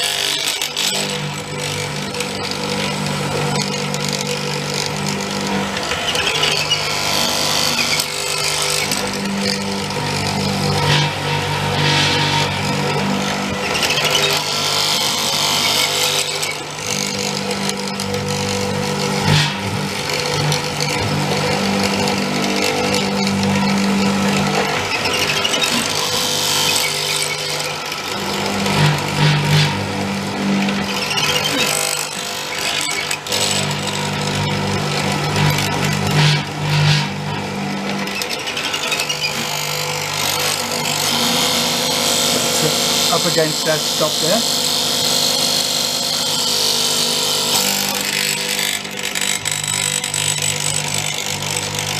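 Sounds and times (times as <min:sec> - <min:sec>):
chisel cutting noise: 0:00.0 - 0:51.9
mortiser motor hum: 0:00.0 - 0:51.9.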